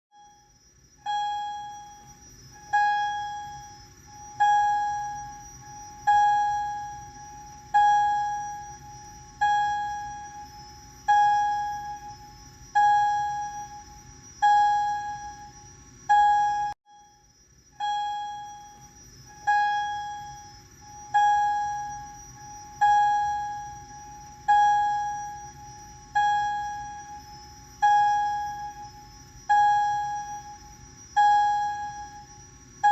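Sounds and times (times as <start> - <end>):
fire alarm electronic chime: 0.1 - 32.9.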